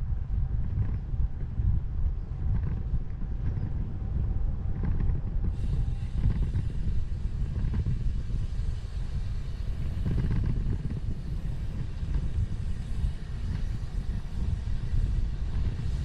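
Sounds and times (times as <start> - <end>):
road noise while riding: 0.0 - 16.0
wind rumbling on microphone: 0.0 - 16.0.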